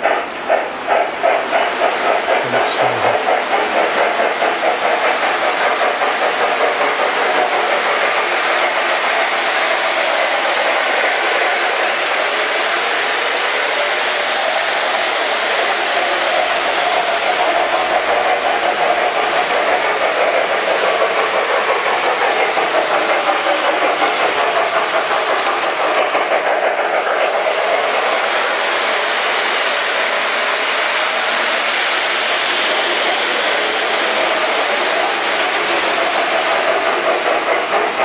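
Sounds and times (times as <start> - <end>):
model train rolling rumble: 0.0 - 38.0.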